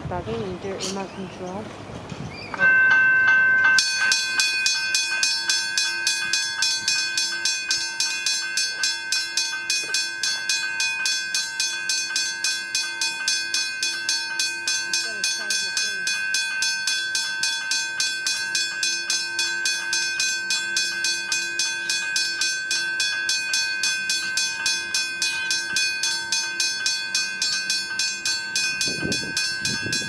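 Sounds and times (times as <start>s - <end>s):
level crossing bell ringing: 2.6s - 30.0s.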